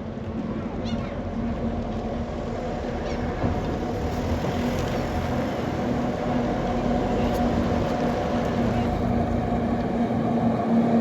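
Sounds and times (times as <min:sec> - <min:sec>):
tram rumbling: 0:00.0 - 0:11.0.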